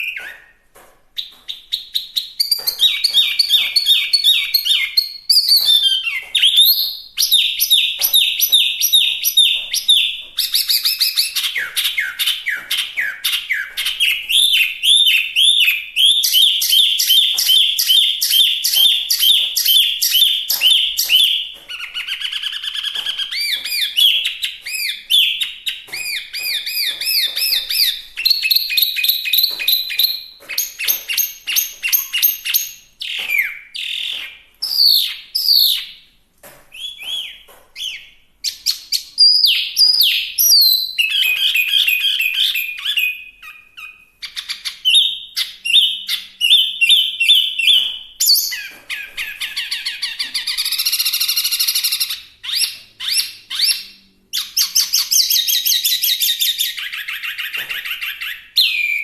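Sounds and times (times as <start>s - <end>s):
songbird whistling song: 0.0s - 0.6s, 1.2s - 36.0s, 36.7s - 59.0s.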